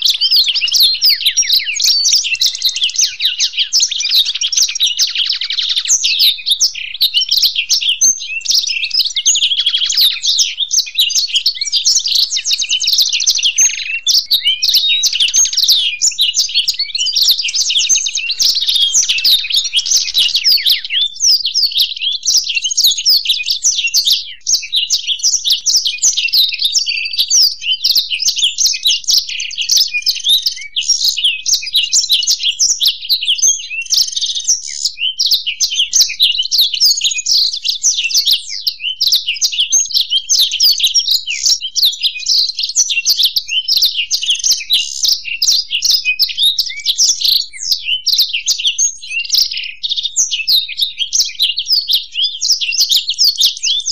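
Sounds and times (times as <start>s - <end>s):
finches singing: 0.0s - 53.9s.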